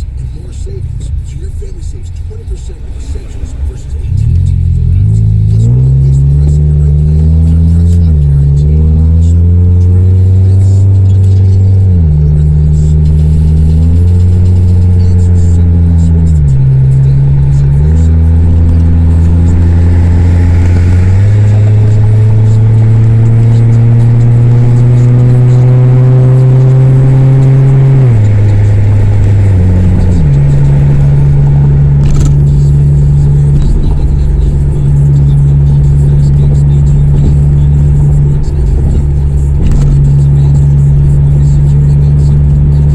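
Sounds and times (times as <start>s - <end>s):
loud deep car exhaust drone: 0.0s - 42.9s.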